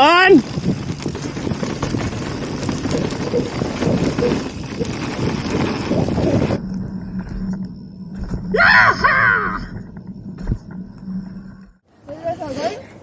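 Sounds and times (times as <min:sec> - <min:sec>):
wind buffeting microphone: 0:00.0 - 0:11.8
bike rattle and tyre noise on dirt: 0:00.0 - 0:13.0.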